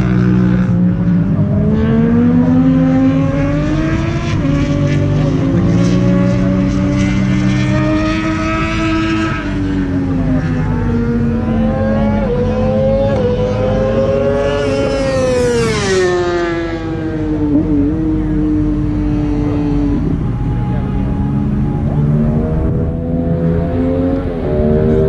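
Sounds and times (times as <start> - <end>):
car engines running at speed: 0.0 - 25.0.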